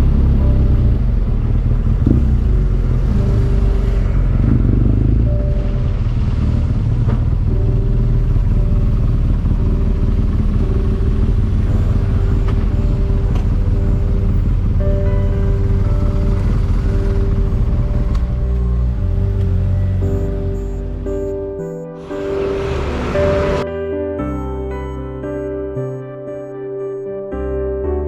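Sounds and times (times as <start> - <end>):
motorcycle engine rumbling: 0.0 - 23.7.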